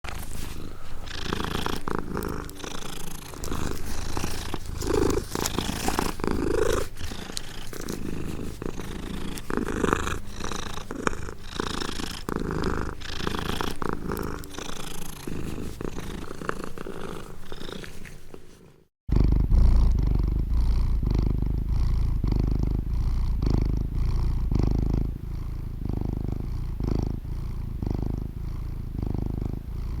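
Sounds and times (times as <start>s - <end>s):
cat purring: 0.1s - 30.0s.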